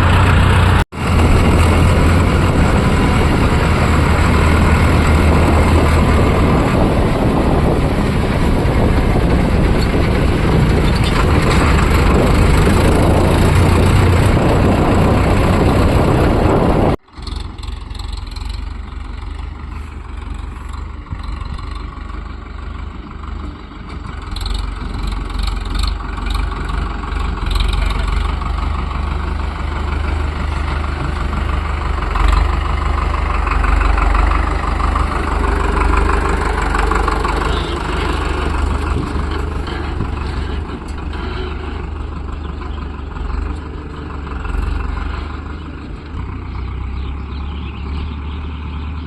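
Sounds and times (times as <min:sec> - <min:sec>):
low tractor engine rumble: 0:00.0 - 0:49.0
tractor engine running: 0:00.0 - 0:49.0.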